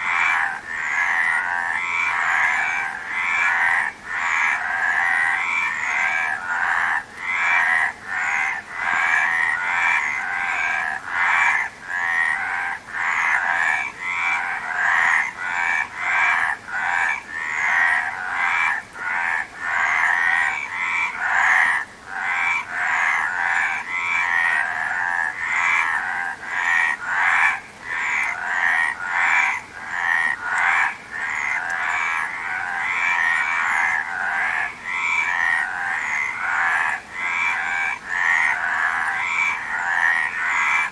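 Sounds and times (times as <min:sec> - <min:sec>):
chorus of frogs croaking: 0:00.0 - 0:40.9.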